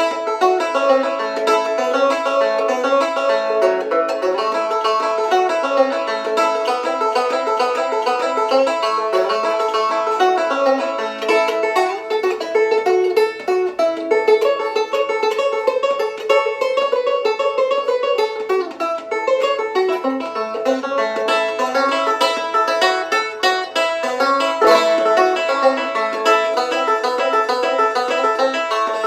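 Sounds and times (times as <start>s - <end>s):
banjo picking: 0.0s - 29.0s.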